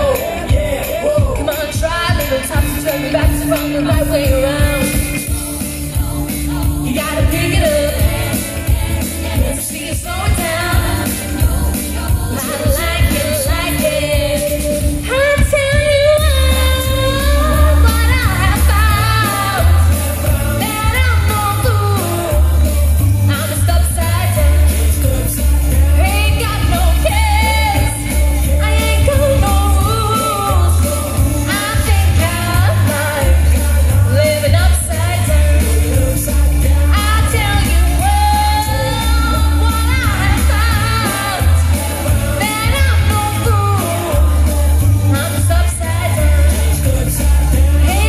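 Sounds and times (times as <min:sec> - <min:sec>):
backing music: 0:00.0 - 0:48.0
woman singing into a microphone: 0:00.0 - 0:48.0.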